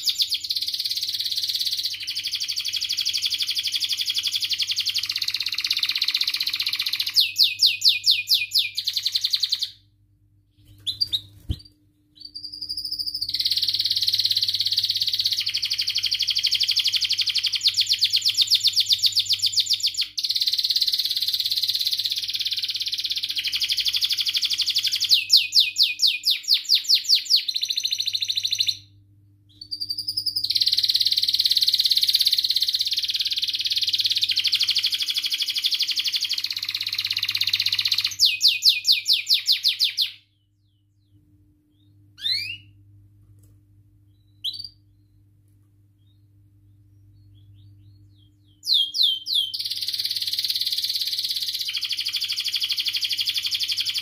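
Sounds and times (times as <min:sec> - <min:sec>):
canary singing trills: 0:00.0 - 0:09.9, 0:10.5 - 0:42.8, 0:44.1 - 0:45.3, 0:46.0 - 0:54.0.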